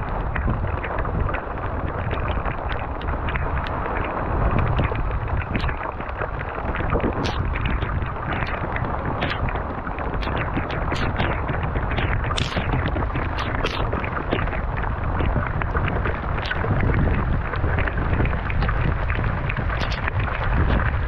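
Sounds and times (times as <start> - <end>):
rain patters: 0.0 - 21.0
wind rumbling on microphone: 0.0 - 21.0.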